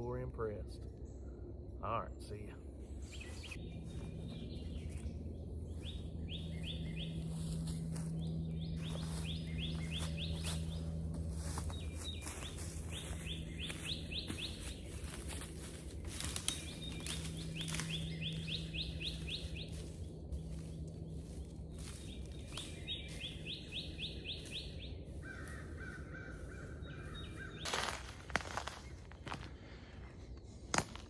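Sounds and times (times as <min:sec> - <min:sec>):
songbird singing: 0:00.0 - 0:30.5
low outdoor background hum: 0:00.0 - 0:31.0.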